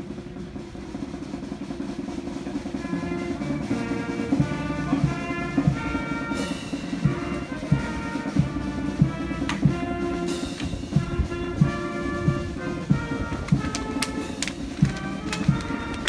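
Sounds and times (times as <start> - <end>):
drum beat: 0.0 - 16.0.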